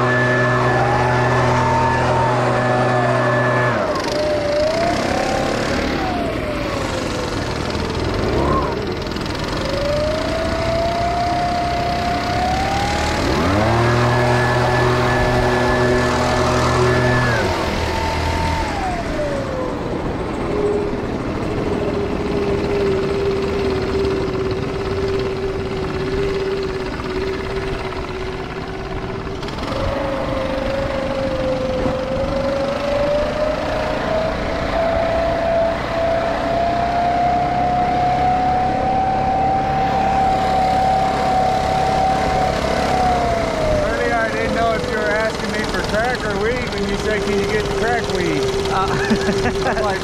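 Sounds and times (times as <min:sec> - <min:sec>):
lawn mower running: 0:00.0 - 0:50.0.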